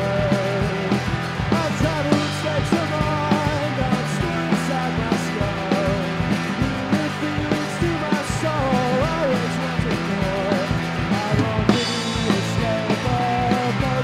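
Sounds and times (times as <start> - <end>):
drum kit steady beat: 0.0 - 14.0
live blues-rock band playing: 0.0 - 14.0.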